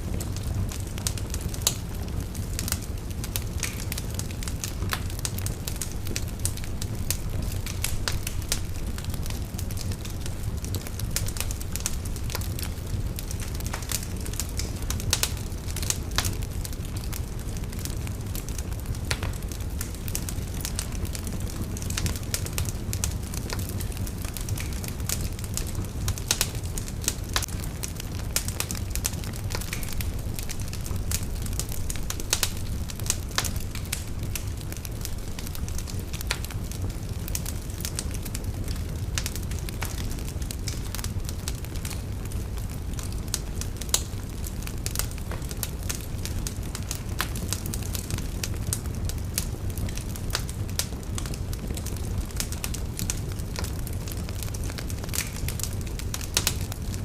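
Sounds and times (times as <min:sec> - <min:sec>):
fire crackling: 0:00.0 - 0:57.0.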